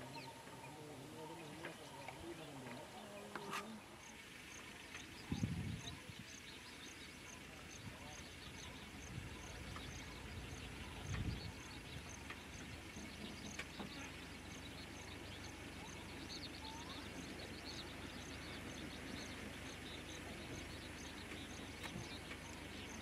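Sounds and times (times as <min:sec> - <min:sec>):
bird calls: 0:00.0 - 0:23.0.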